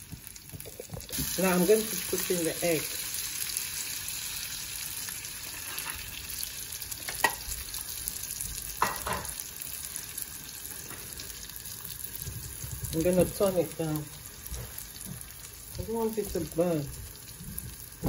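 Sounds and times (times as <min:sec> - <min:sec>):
egg sizzling in a frying pan: 0:00.0 - 0:18.0.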